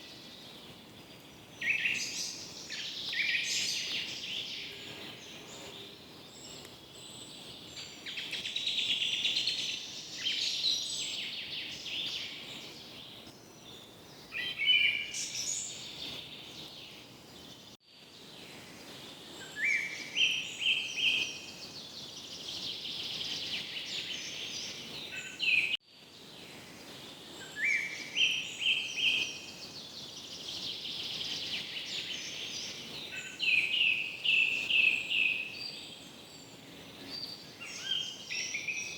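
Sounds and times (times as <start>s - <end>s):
birdsong: 0.0s - 38.9s.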